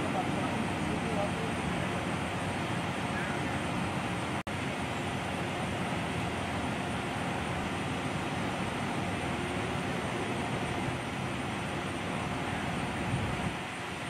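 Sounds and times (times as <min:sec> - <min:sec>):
vehicle rumble and hiss: 0:00.0 - 0:14.0.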